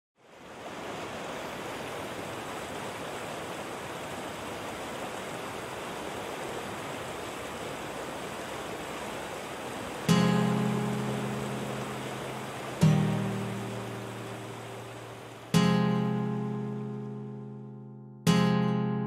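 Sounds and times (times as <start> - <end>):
river water rushing: 0.2 - 17.6.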